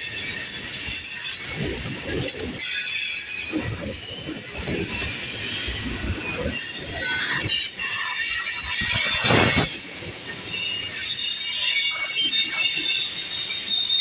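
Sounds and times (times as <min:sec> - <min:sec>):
high wheel squeal: 0:00.0 - 0:14.0
train wheels rumbling and clattering: 0:00.0 - 0:14.0.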